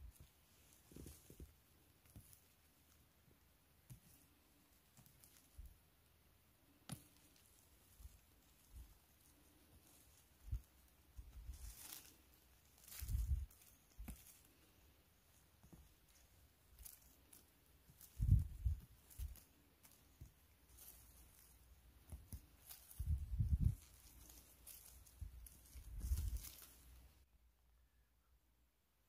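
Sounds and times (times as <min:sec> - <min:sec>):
rustling on forest floor: 0:00.0 - 0:27.3.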